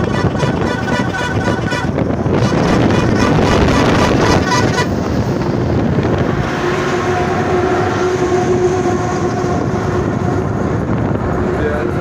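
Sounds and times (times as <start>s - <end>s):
steady droning tone: 0.0s - 12.0s
truck engine rumble: 0.0s - 12.0s.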